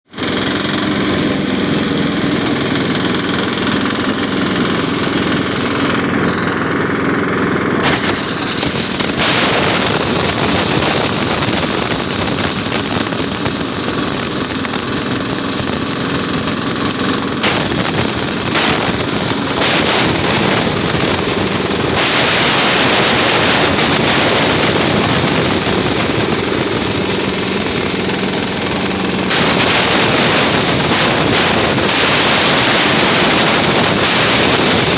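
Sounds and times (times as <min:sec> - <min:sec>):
chaff cutter machine noise: 0:00.0 - 0:34.9
diesel engine knocking: 0:00.1 - 0:22.0, 0:22.8 - 0:34.9.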